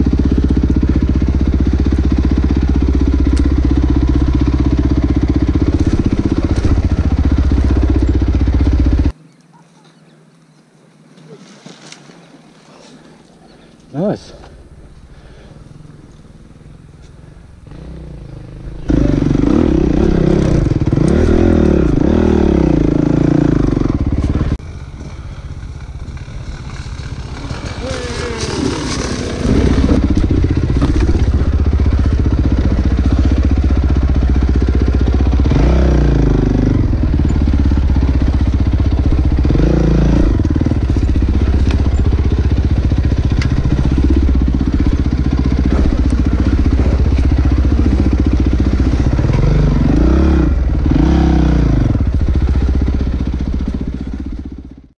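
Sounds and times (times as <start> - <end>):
dirt bike engine revving: 0.0 - 9.1, 17.6 - 54.6.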